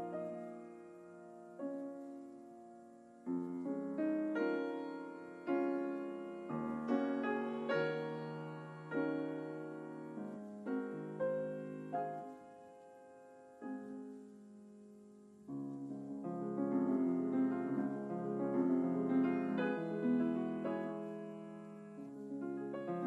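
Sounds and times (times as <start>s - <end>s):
soft solo piano music: 0.0s - 23.0s.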